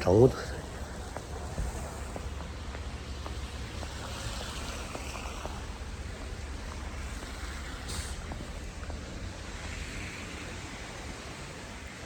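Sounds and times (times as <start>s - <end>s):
wind rumbling on microphone: 0.0s - 12.0s
wind rushing in a snowstorm: 0.0s - 12.0s.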